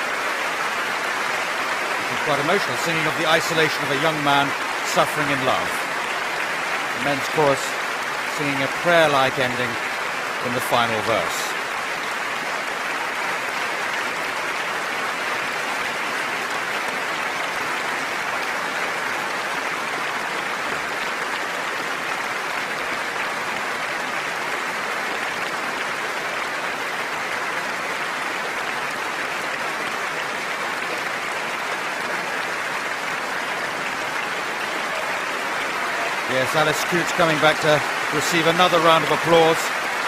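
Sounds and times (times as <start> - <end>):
audience applauding: 0.0 - 40.0.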